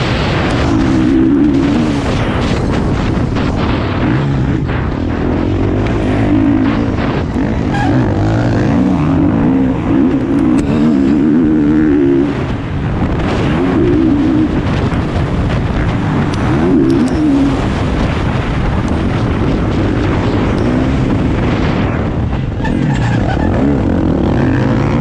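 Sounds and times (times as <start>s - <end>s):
motocross bike engine revving: 0.0s - 25.0s
wind rush: 0.0s - 25.0s.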